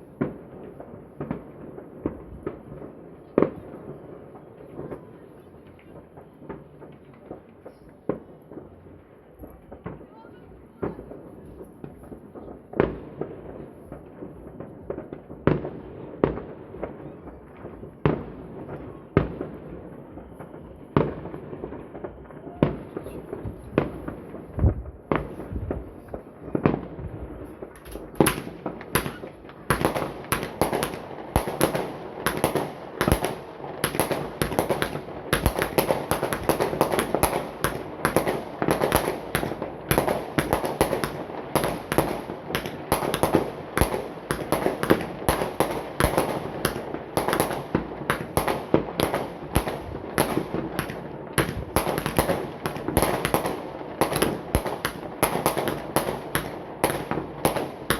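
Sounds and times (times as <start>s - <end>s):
fireworks bangs and crackle: 0.0s - 57.9s.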